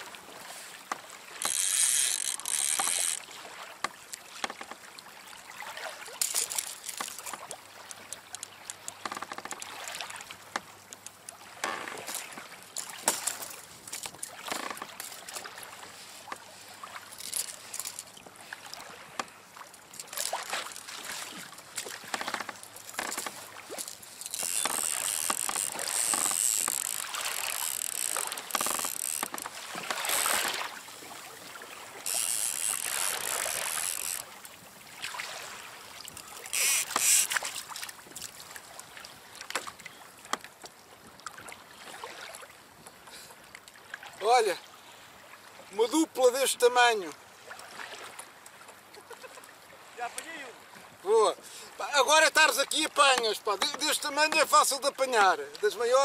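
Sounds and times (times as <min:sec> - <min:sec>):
water slapping against kayak hull: 0:00.0 - 0:42.4, 0:51.8 - 0:55.8.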